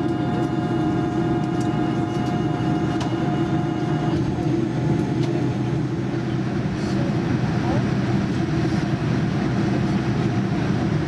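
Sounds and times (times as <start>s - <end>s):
high-pitched engine whine: 0.0s - 11.0s
jet engine idling hum: 0.0s - 11.0s.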